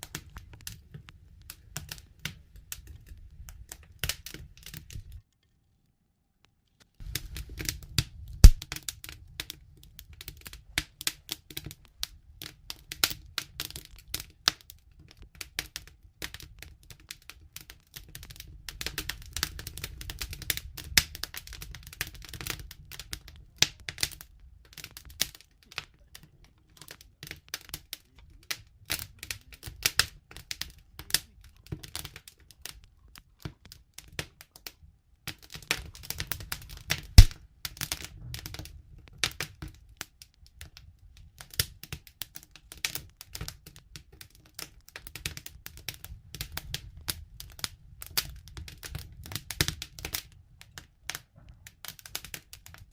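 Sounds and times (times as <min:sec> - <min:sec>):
wood fire crackling and popping: 0:00.0 - 0:05.6, 0:06.5 - 0:52.9.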